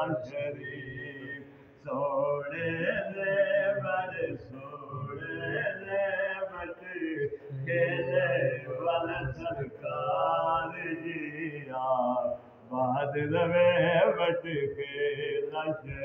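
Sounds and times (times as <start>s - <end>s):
man singing devotional chant: 0.0s - 16.0s.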